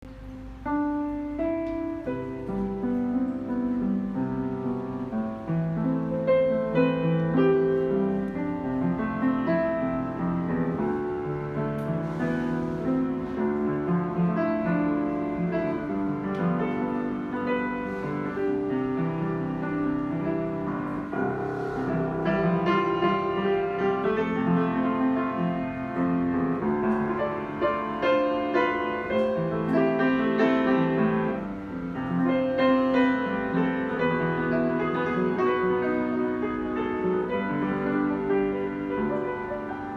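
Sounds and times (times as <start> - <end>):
upright piano playing: 0.0 - 39.9.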